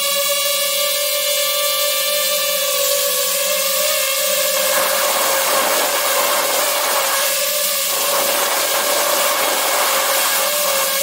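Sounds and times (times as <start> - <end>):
drone motors whining: 2.1 - 11.0.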